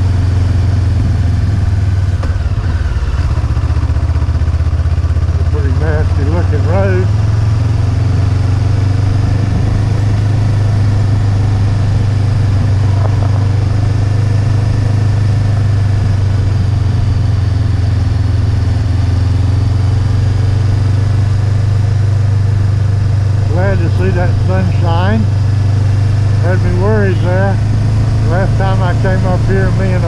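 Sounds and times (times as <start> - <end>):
motorcycle engine droning: 0.0 - 30.0
road noise: 0.0 - 30.0.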